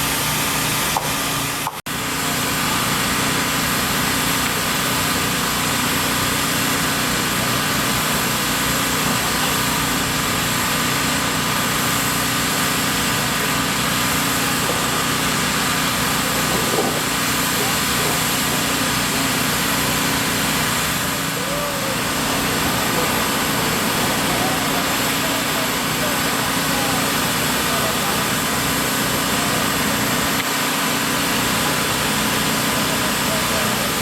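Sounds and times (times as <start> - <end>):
engine running steadily: 0.0 - 34.0.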